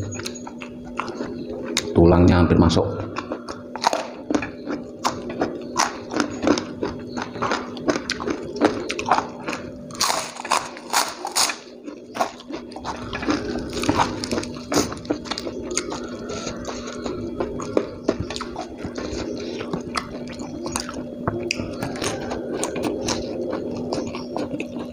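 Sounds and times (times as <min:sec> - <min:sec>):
person chewing crunchy food: 0:00.0 - 0:02.1, 0:03.0 - 0:24.9
low hum: 0:00.0 - 0:24.9.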